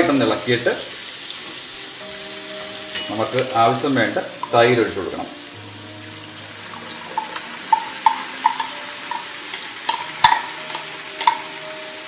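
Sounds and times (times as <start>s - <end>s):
frying in a wok: 0.0s - 12.0s.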